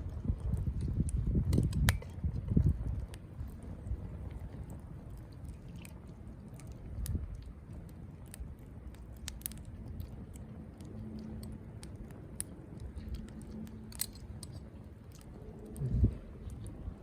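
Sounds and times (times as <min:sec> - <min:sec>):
campfire crackling and popping: 0:00.0 - 0:17.0
low rumble: 0:00.0 - 0:17.0.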